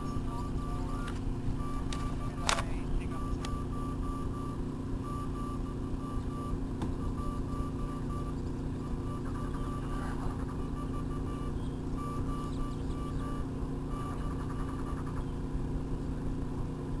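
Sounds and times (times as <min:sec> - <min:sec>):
faint morse-like beeping: 0:00.0 - 0:15.5
low hum: 0:00.0 - 0:17.0.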